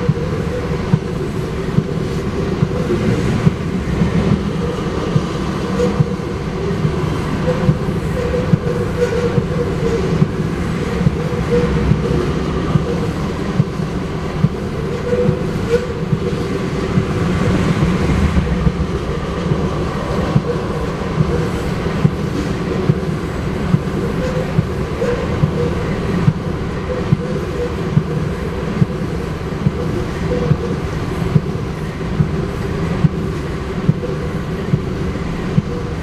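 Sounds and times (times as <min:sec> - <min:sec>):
freight train wheels rumbling: 0:00.0 - 0:36.0
wheels clicking over rail joints: 0:00.0 - 0:36.0.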